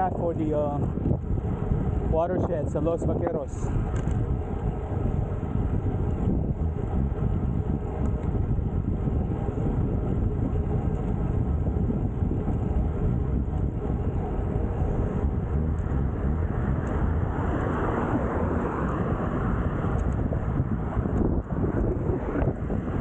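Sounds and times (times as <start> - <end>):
road noise: 0.0 - 23.0
wind on microphone: 0.0 - 23.0.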